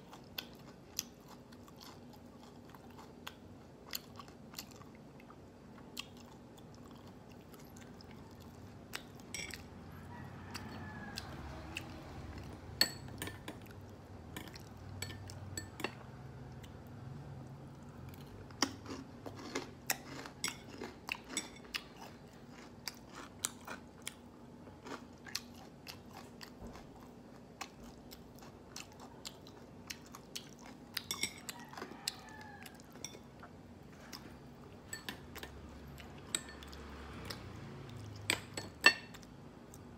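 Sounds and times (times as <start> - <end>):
crunchy chewing: 0.0 - 12.6, 17.8 - 38.2.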